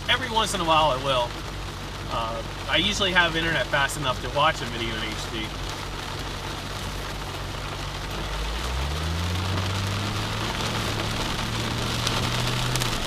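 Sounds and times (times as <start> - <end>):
car engine and exhaust revving: 0.0 - 13.0
heavy rain pattering on a car: 0.0 - 13.0.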